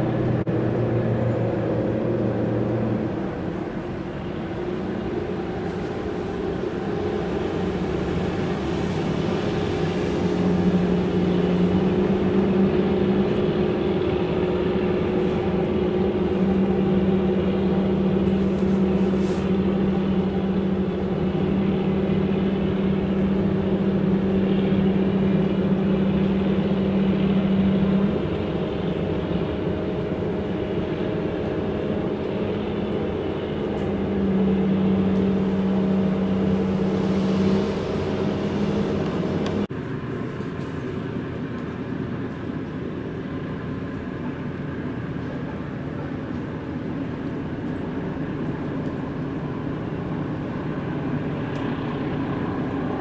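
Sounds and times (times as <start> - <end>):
boat diesel engines droning: 0.0 - 53.0.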